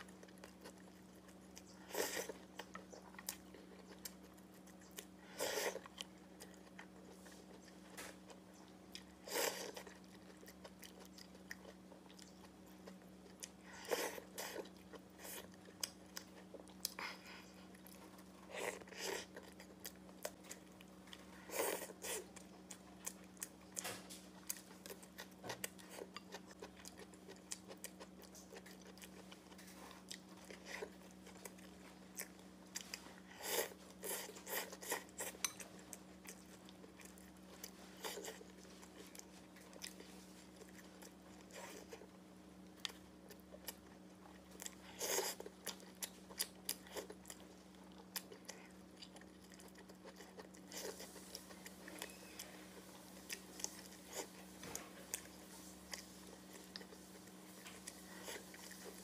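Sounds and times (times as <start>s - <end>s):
faint steady hum: 0.0s - 59.0s
person chewing and mouth smacks: 0.0s - 59.0s.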